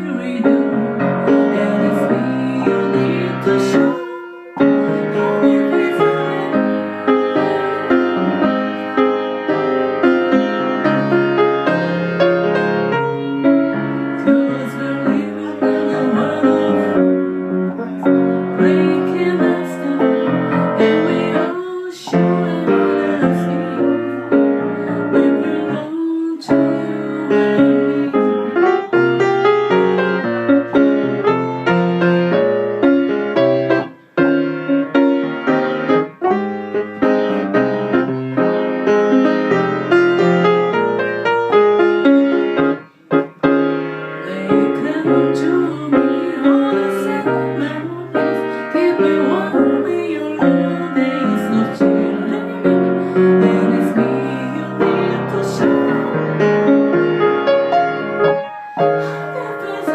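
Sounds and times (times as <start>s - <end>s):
piano playing chords: 0.0s - 59.9s.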